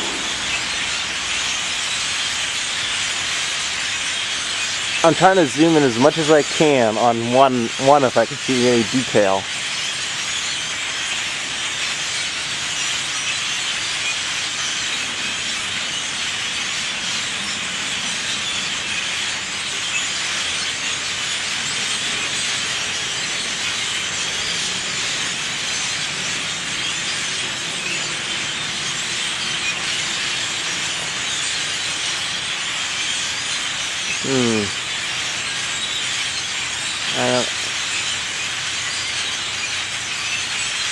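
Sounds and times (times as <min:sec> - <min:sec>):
huge flock of birds chattering: 0:00.0 - 0:40.9.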